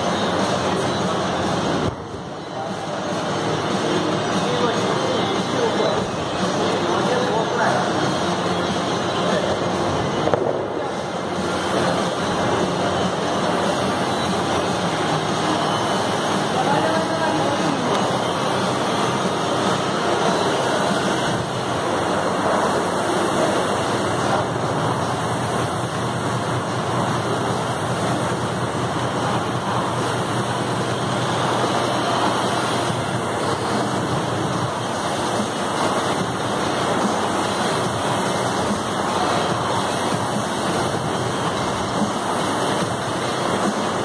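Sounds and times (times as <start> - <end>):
rowing machine fan whirring: 0.0 - 44.0.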